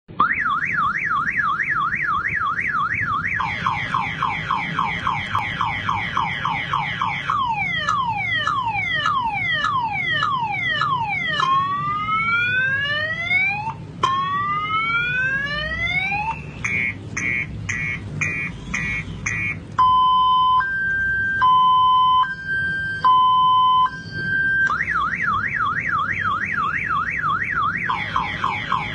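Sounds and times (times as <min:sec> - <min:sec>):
car alarm siren: 0:00.1 - 0:28.9.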